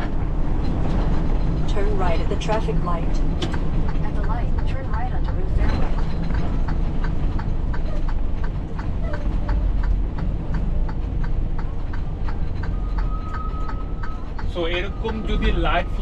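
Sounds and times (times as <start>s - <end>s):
diesel engine rumble: 0.0s - 16.0s
turn signal ticking: 0.0s - 16.0s.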